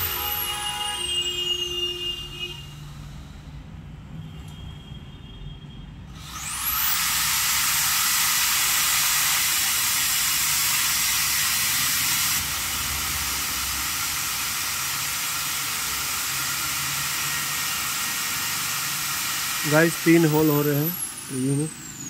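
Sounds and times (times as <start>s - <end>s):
electric drill boring into wall: 0.0s - 3.4s, 6.2s - 22.0s.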